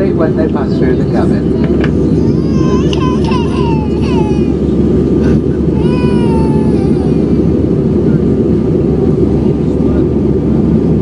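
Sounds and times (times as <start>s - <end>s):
aircraft cabin engine rush: 0.0s - 11.0s.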